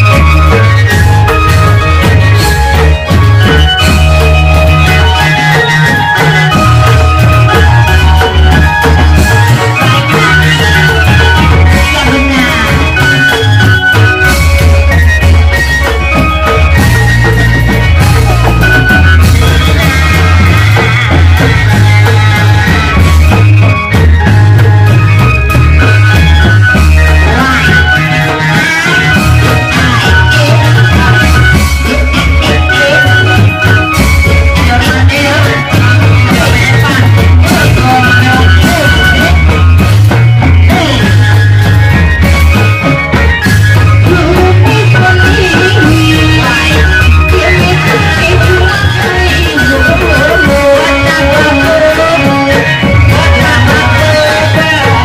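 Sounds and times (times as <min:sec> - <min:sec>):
drums: 0:00.0 - 0:55.0
loud amplified music with bass: 0:00.0 - 0:55.0.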